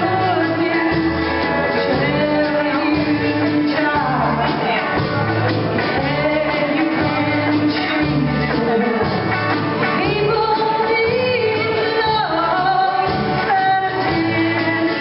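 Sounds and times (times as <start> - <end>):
accordion: 0.0 - 15.0
banjo: 0.0 - 15.0
drums: 0.0 - 15.0
strummed guitars: 0.0 - 15.0
woman singing into a microphone: 0.0 - 15.0.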